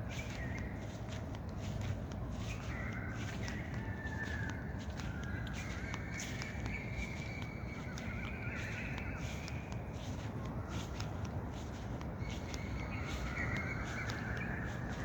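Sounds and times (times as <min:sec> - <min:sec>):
birds calling with wavering notes: 0:00.0 - 0:15.0.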